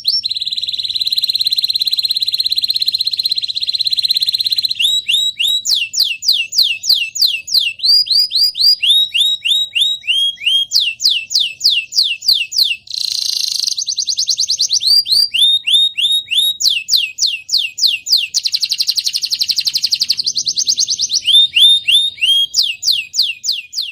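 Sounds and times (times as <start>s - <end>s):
canary singing: 0.0s - 23.9s.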